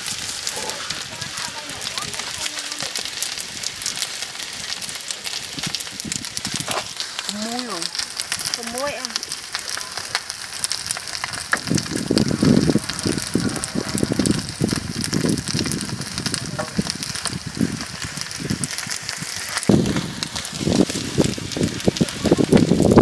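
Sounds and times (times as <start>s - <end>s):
rice cakes frying in oil: 0.0s - 23.0s.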